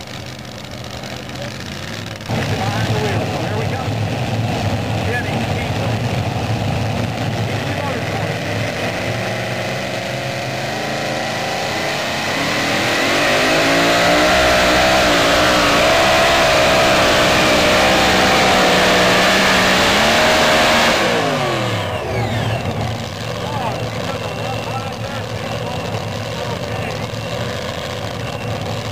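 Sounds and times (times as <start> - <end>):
supercharged engine at full throttle: 0.0 - 28.9.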